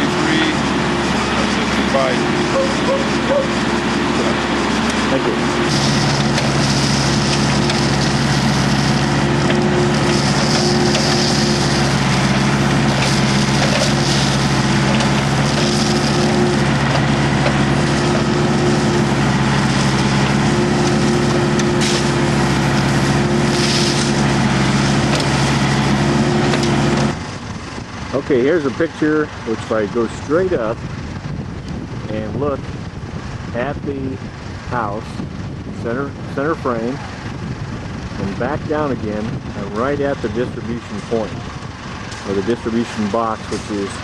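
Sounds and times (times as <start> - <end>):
gravel crunching and scraping: 0.0 - 32.3, 33.2 - 44.0
diesel machinery running: 0.0 - 44.0.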